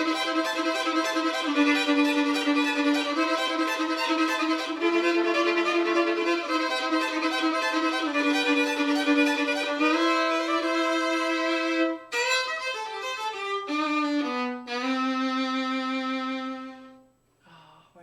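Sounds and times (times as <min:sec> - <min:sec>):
bowed violin slow tune: 0:00.0 - 0:17.0.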